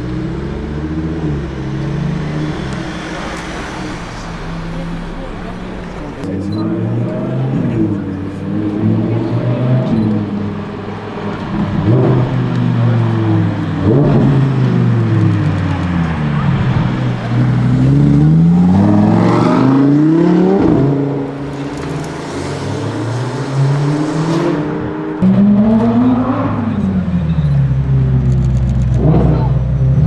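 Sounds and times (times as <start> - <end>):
sports car engine revving: 0.0 - 30.0.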